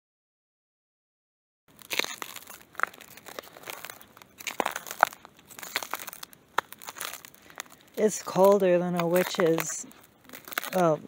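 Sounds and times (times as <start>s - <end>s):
crackling and crumpling: 1.7s - 11.0s
footsteps crunching on frozen leaves: 1.7s - 11.0s.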